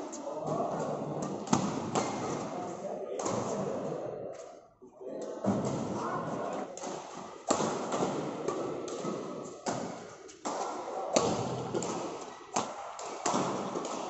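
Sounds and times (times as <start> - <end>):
rackets hitting shuttlecock: 0.4 - 2.6, 3.2 - 3.7, 5.2 - 14.0.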